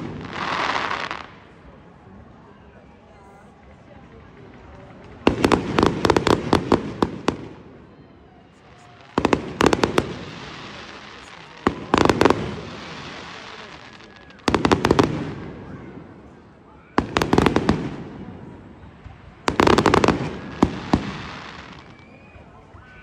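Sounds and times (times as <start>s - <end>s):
crackling fizz of fireworks: 0.0s - 23.0s.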